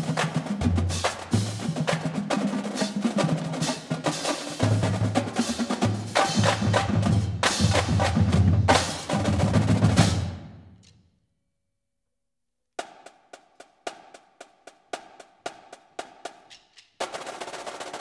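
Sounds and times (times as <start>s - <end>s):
marching drumline: 0.0s - 10.7s, 12.8s - 18.0s.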